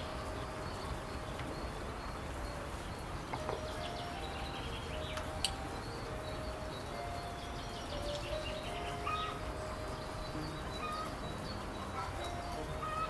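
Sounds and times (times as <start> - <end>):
birds chirping and calling: 0.0 - 13.0
steady background hiss: 0.0 - 13.0.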